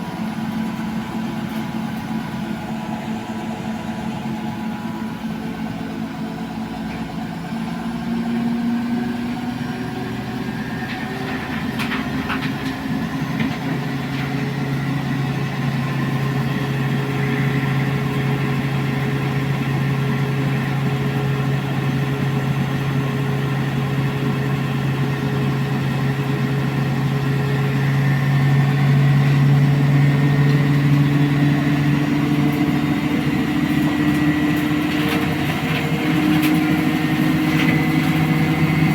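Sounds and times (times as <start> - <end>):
motor hum and whine: 0.0 - 38.9.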